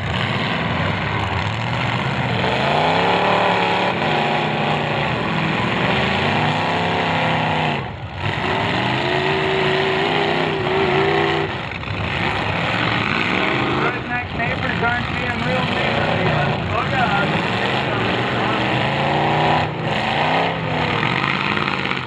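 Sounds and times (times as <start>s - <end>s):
car engines revving hard: 0.0s - 22.0s.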